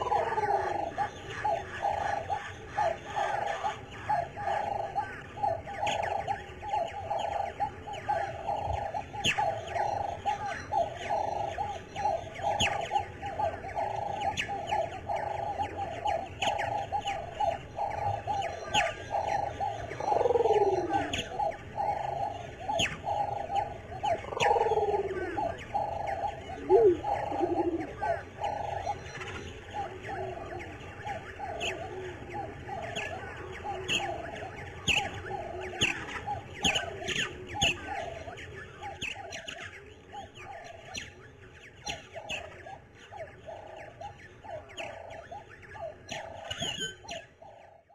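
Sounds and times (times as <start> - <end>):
falling bird calls: 0.0 - 47.9
rhythmic pulsing bird chorus: 0.0 - 47.9.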